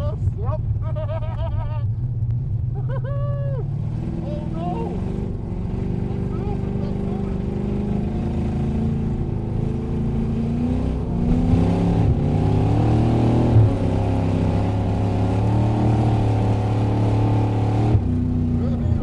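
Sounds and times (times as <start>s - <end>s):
race car engine from inside: 0.0s - 19.0s.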